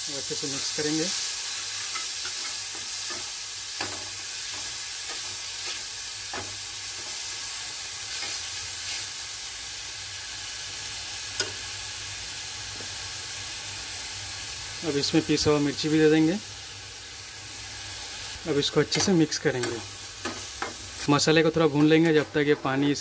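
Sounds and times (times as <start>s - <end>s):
paste sizzling in hot oil: 0.0s - 23.0s.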